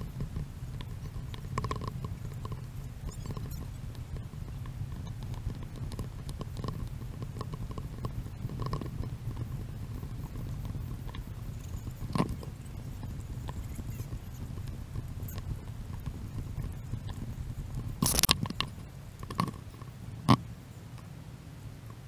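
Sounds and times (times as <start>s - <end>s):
camera handling rumble and footsteps: 0.0s - 20.4s.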